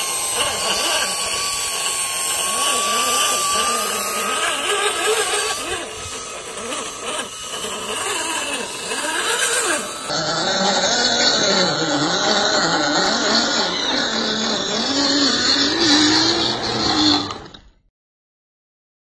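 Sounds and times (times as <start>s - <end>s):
small electric motors whining: 0.0s - 17.9s.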